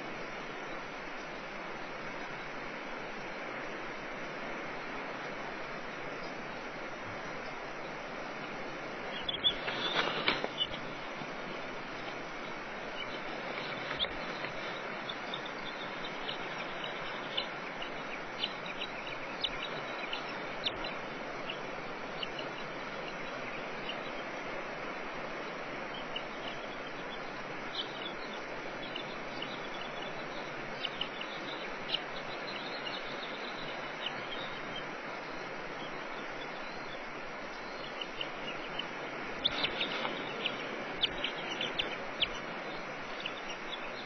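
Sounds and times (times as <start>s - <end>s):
steady rushing noise: 0.0s - 44.0s.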